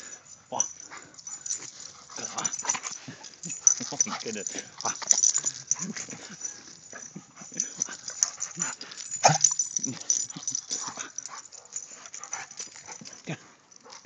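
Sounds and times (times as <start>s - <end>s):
scuffling and handling noise: 0.6s - 14.0s.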